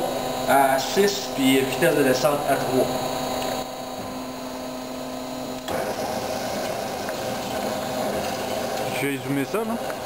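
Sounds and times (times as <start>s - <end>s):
band saw running: 0.0s - 10.0s.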